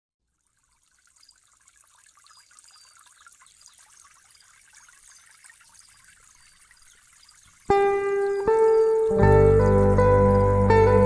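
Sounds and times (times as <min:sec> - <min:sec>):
waterfall splashing and trickling: 0:00.2 - 0:11.0.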